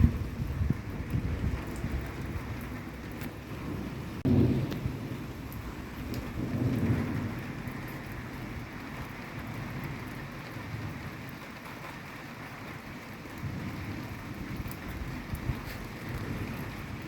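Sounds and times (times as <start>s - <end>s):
low rumble of thunder: 0.0s - 17.0s
steady rain: 0.0s - 17.0s.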